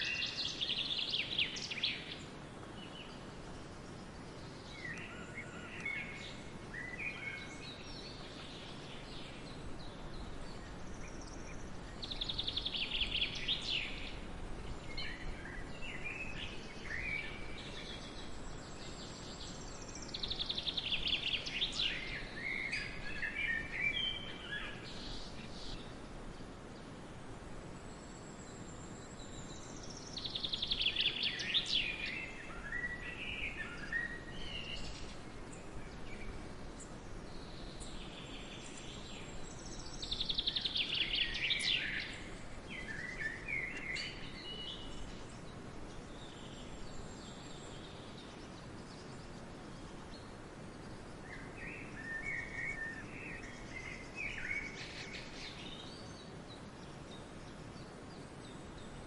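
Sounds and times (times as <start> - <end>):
forest background hiss: 0.0 - 59.0
songbird singing: 0.0 - 59.0.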